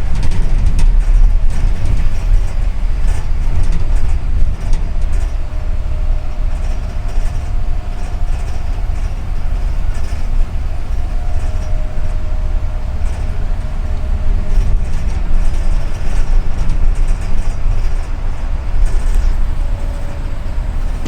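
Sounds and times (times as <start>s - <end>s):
bus body rattling: 0.0s - 21.0s
bus engine and road rumble: 0.0s - 21.0s
faint steady whine: 0.0s - 21.0s.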